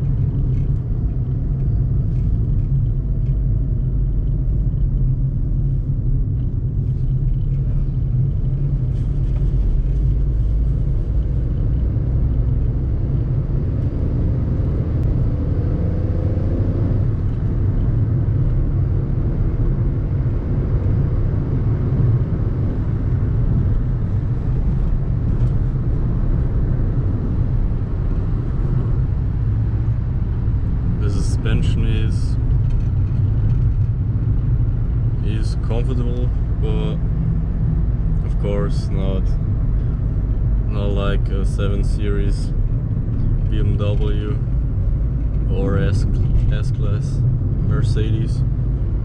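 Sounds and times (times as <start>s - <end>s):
car engine rumbling: 0.0s - 49.0s
road noise: 0.0s - 49.0s.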